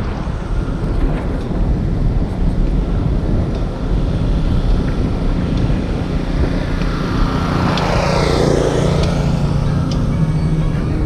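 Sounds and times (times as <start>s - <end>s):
electric scooter rolling: 0.0s - 11.0s
wind over microphone: 0.0s - 11.0s.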